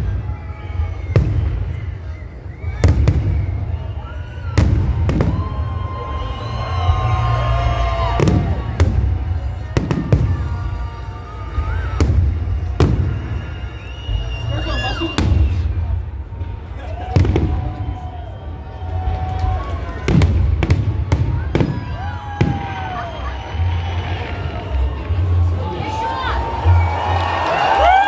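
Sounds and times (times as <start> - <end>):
fireworks bangs: 0.0 - 25.4
crowd chatter: 0.0 - 28.0.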